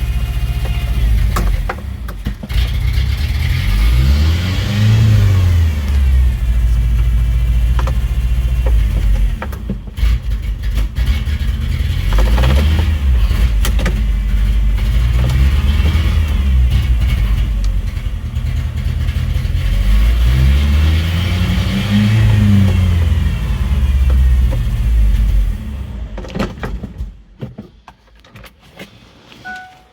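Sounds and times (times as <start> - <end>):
engine revving: 0.0 - 26.2.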